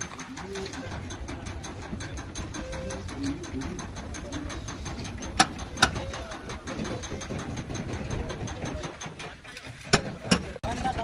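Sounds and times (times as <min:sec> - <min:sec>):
sharp metallic clicks: 0:00.0 - 0:10.6
rapid mechanical ticking: 0:00.0 - 0:11.0
steady low rumble: 0:00.0 - 0:11.0.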